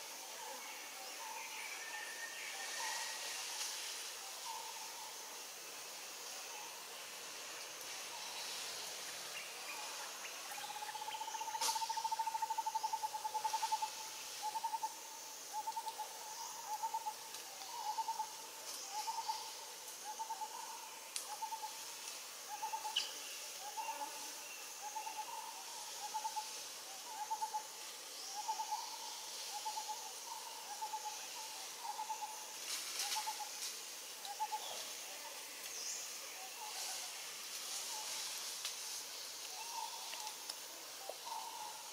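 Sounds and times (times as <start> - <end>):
faint steady hiss: 0.0 - 41.9.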